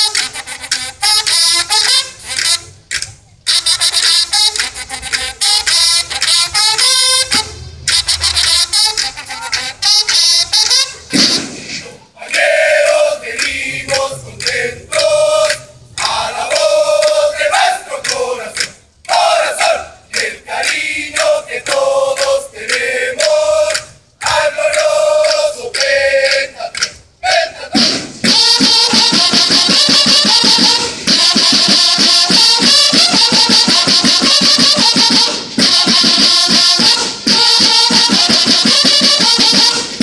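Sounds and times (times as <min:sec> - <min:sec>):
bugles playing short phrases: 0:00.0 - 0:40.0
snare drums: 0:00.0 - 0:40.0.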